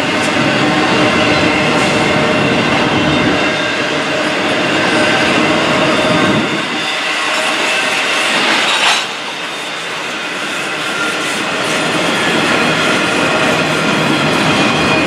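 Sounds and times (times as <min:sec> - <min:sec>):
train wheels clattering on rails: 0:00.0 - 0:15.0.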